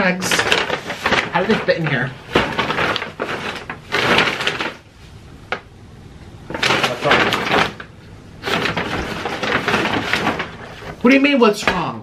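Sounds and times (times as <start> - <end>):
paper bags rustling: 0.0 - 5.6, 6.4 - 12.0.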